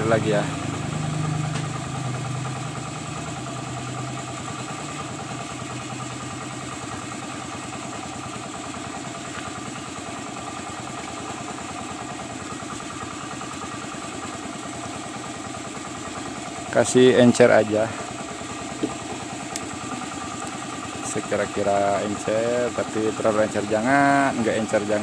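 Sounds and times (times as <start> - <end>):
small engine idling: 0.0 - 25.0.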